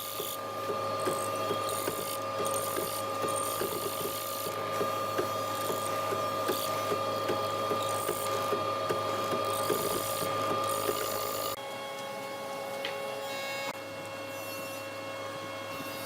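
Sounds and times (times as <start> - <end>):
small machine motor whining: 0.0 - 16.0.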